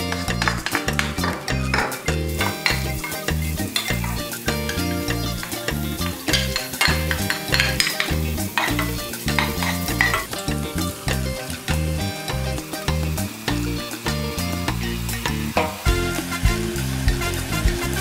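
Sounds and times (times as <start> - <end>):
background music with bass line: 0.0 - 18.0
shallots sizzling in hot oil: 0.0 - 18.0.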